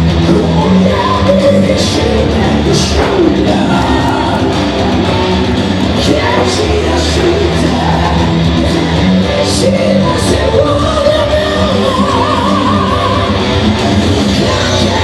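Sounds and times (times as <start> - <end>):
distorted electric guitar: 0.0 - 15.0
drums: 0.0 - 15.0
vocalist singing: 0.0 - 15.0.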